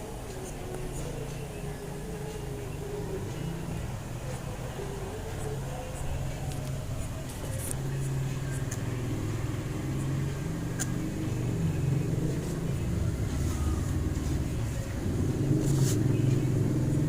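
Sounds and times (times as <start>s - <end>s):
aquarium equipment low hum: 0.0s - 17.0s.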